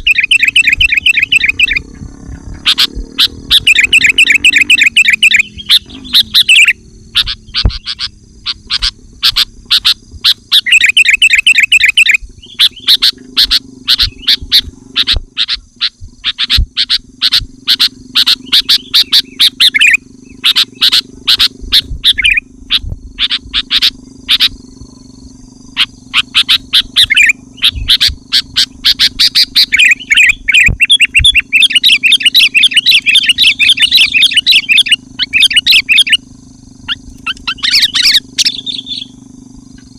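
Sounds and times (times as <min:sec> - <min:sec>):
bulbuls chirping and trilling: 0:00.0 - 0:39.9.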